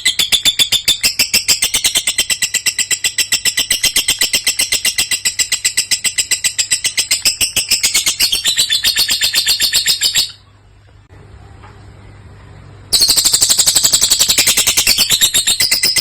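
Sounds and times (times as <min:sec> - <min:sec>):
lovebird rapid high chirps: 0:00.0 - 0:10.4, 0:12.9 - 0:16.0.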